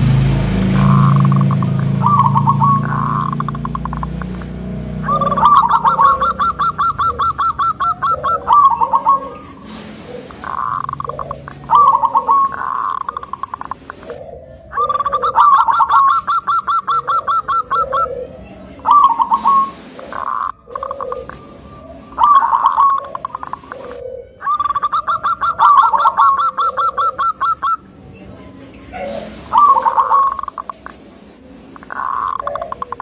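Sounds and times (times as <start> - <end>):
dove calling: 0.0 - 33.0.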